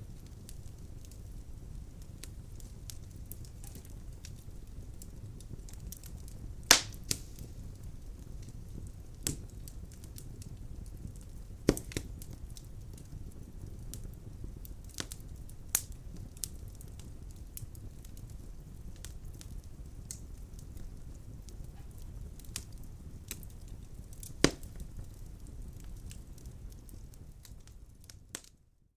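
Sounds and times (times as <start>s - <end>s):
wood fire crackling and popping: 0.0s - 28.6s.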